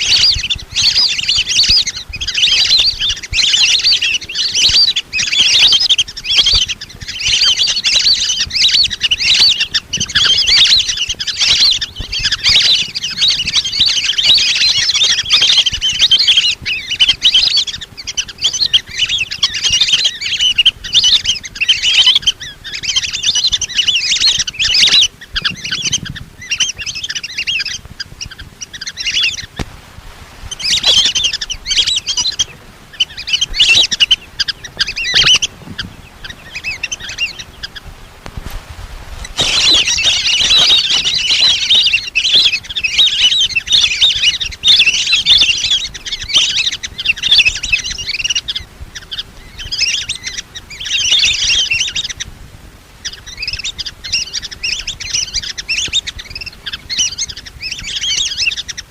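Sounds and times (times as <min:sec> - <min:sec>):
whistling ducks calling: 0:00.0 - 0:29.7, 0:30.4 - 0:38.2, 0:39.2 - 0:52.3, 0:53.0 - 0:58.9.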